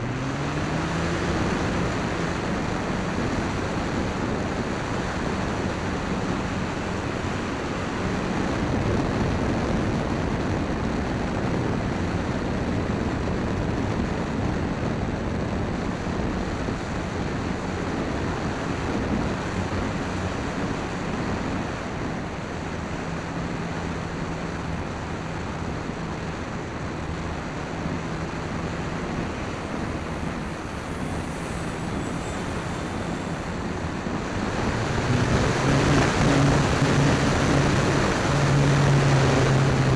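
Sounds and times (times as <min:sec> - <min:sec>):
motor and propeller hum: 0:00.0 - 0:39.9
wind rush: 0:00.0 - 0:39.9.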